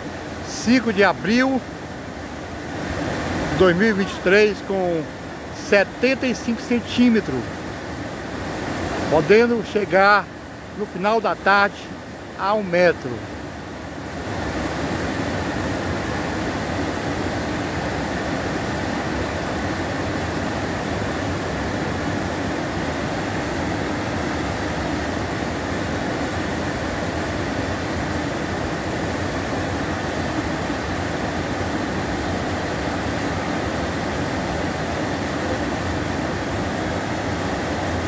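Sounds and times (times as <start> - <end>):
water rushing over spillway: 0.0 - 38.0.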